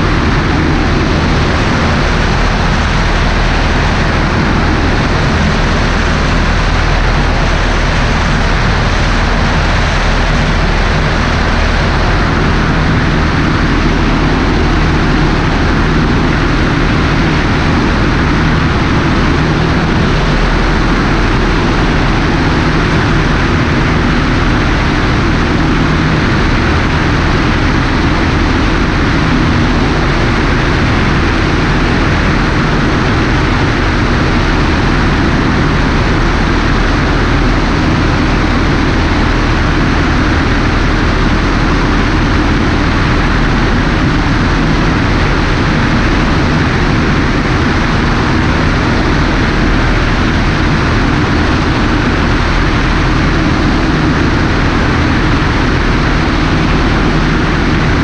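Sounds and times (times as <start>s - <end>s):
propeller plane engine running: 0.0s - 58.0s
wind rush on microphone: 0.0s - 58.0s.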